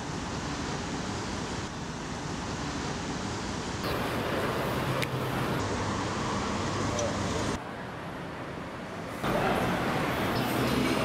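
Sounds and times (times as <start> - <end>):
traffic hiss: 0.0 - 11.0.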